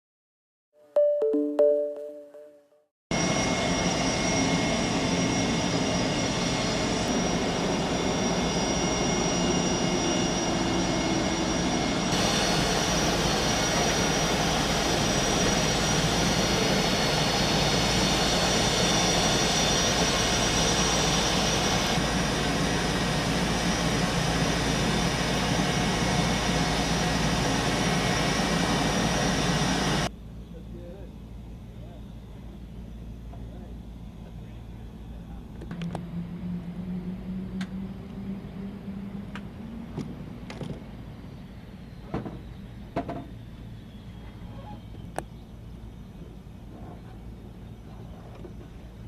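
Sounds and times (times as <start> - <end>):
helicopter turbine engines whining: 3.1 - 49.0.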